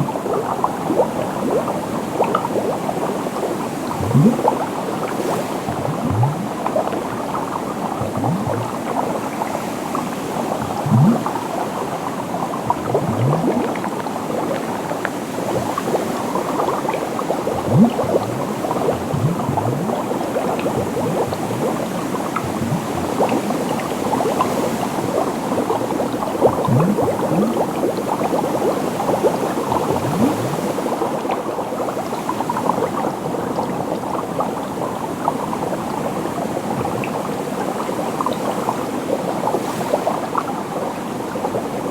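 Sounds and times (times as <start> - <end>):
deep bubble blooping: 0.0 - 39.6
liquid bubbling and popping: 0.0 - 41.9.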